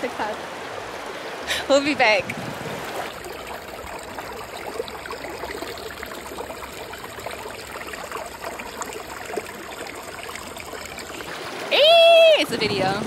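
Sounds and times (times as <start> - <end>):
river water trickling over rocks: 0.0 - 13.0.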